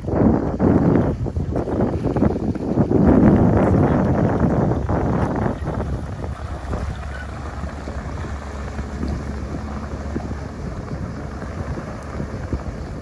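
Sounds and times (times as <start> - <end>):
outboard motor running: 0.0 - 13.0
wind buffeting microphone: 0.0 - 13.0.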